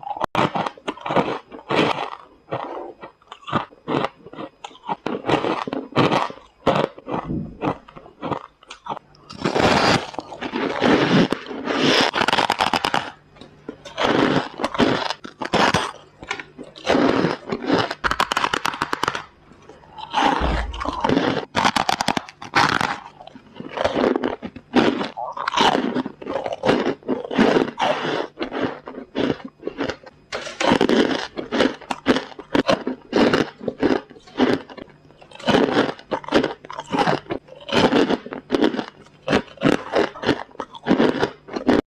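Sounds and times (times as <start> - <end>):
frost being bitten and chewed: 0.0 - 41.8.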